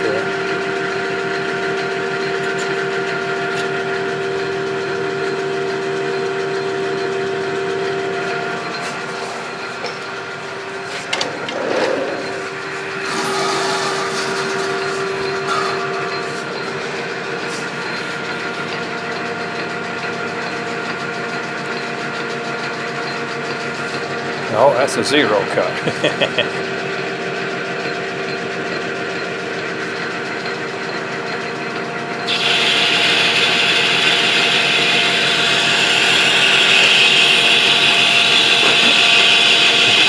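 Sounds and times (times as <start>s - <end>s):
metal lathe whining: 0.0s - 40.0s.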